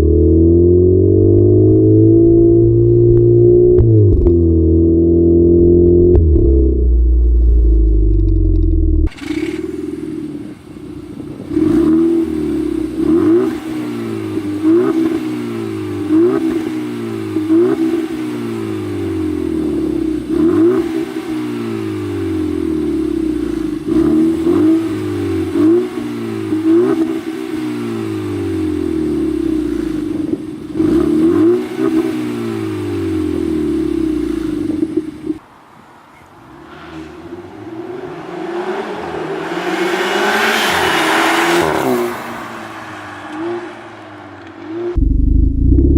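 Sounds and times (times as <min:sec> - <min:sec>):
car engine revving: 0:00.0 - 0:10.6, 0:11.5 - 0:35.4, 0:36.9 - 0:45.9.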